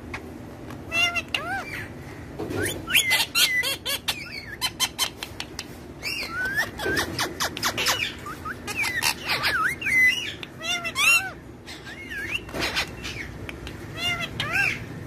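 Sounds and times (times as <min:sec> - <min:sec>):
parakeets whistling and squawking: 0:00.9 - 0:05.4, 0:06.0 - 0:15.0.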